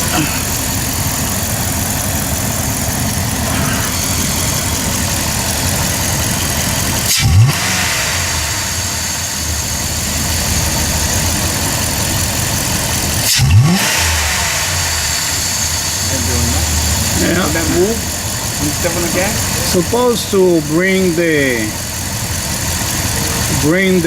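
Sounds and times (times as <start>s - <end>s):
engine idling and revving: 0.0s - 24.0s.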